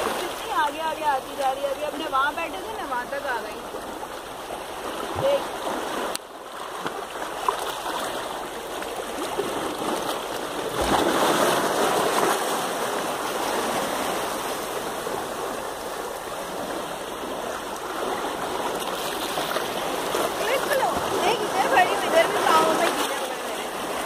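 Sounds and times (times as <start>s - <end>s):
sea water splashing over rocks: 0.0s - 24.0s.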